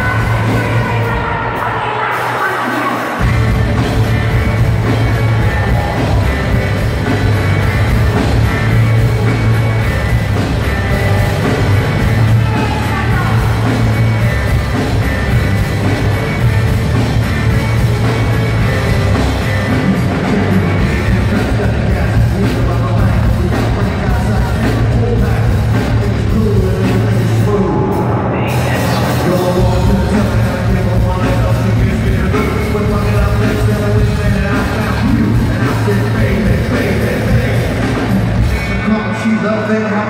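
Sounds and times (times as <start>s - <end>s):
bass guitar: 0.0s - 1.7s, 3.2s - 40.0s
drums: 0.0s - 40.0s
electric guitar: 0.0s - 40.0s
keyboards: 0.0s - 40.0s
person singing: 4.2s - 16.4s, 17.5s - 40.0s.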